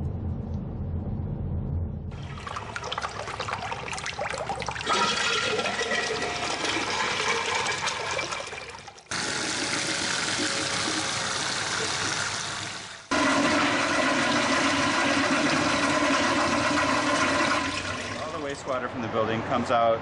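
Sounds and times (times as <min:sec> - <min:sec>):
tap running: 0:02.1 - 0:18.3
urinal flushing: 0:02.1 - 0:18.6.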